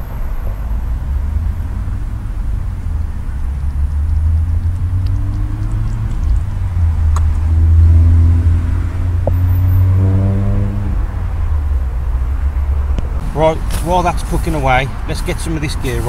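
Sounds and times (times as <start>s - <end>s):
passing vehicle engine: 0.0s - 16.0s
road traffic rumble: 0.0s - 16.0s.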